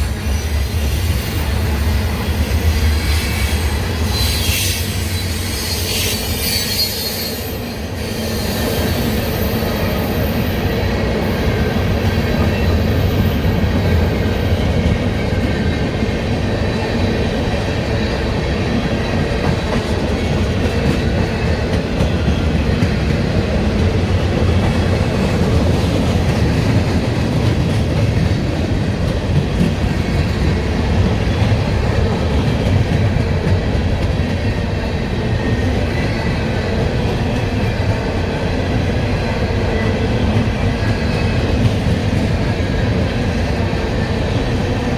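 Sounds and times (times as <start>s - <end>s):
freight train wheels clattering: 0.0s - 44.9s.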